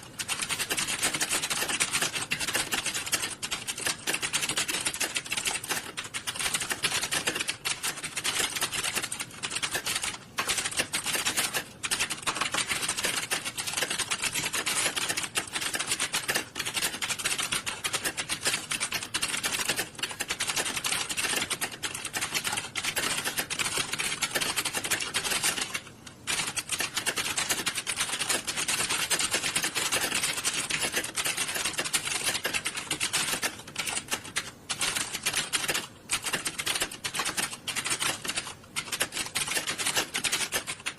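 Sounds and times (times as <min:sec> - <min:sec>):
many keyboards typing: 0:00.0 - 0:40.9.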